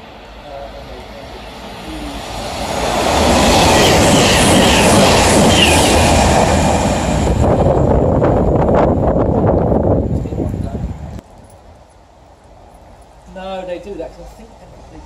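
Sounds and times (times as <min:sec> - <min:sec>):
diesel train passing at speed: 0:00.0 - 0:15.0.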